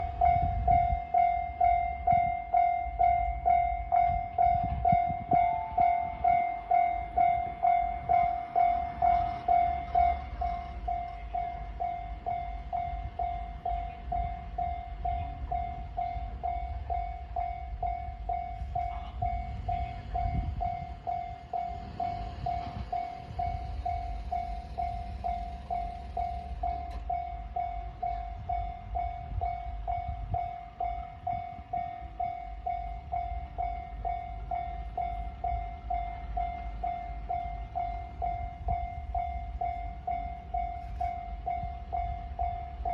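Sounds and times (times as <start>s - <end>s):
railroad crossing warning bell: 0.0s - 42.9s.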